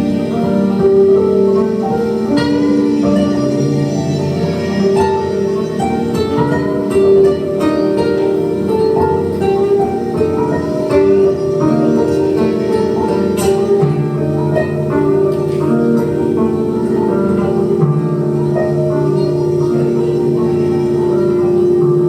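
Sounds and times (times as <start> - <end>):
sustained pitched notes: 0.0 - 22.0.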